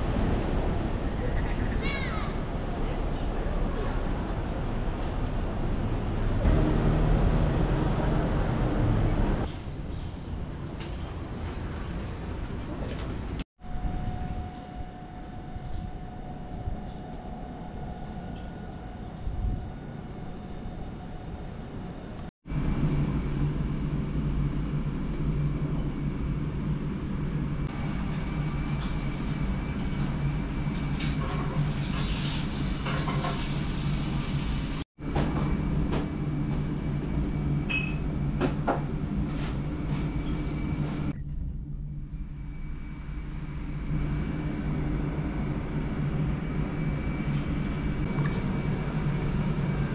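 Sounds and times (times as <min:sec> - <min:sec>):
low rumbling hum: 0:00.0 - 0:32.6, 0:34.3 - 0:49.9.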